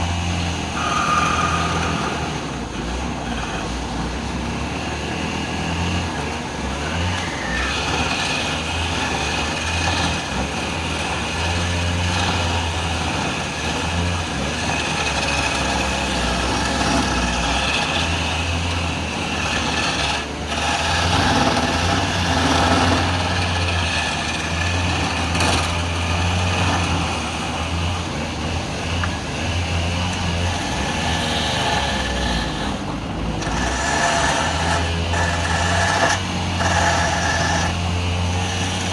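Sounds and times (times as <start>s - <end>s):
turning tool cutting wood: 0.0s - 38.9s
wood lathe humming: 0.0s - 38.9s.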